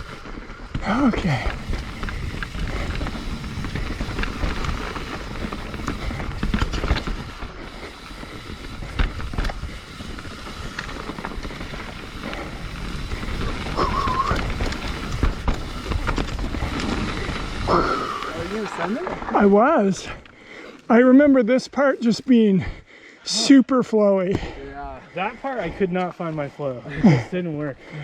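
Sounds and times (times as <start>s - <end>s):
bike rattling: 0.0s - 22.9s
bike tyres rolling on dirt: 0.0s - 28.0s.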